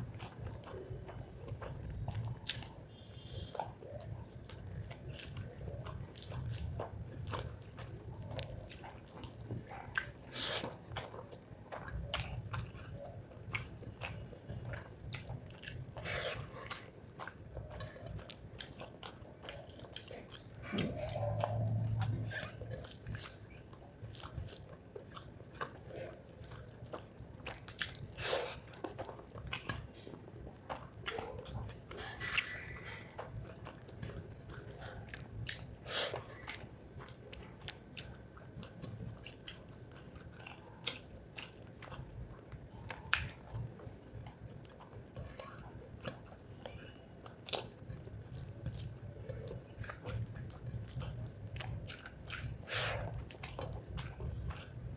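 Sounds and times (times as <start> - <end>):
wet chewing mouth sounds: 0.0 - 54.9.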